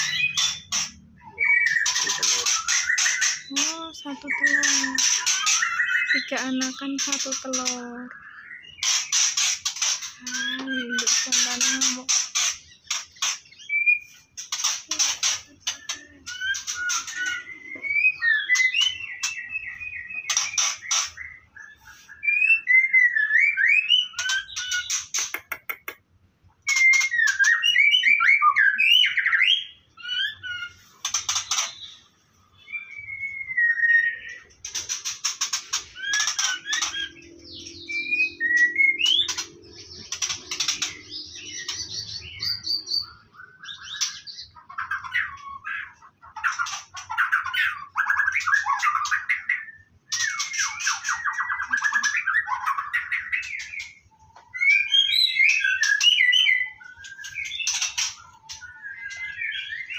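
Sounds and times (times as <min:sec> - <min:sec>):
bird whistling and trilling: 0:00.0 - 0:25.8, 0:26.6 - 0:59.9.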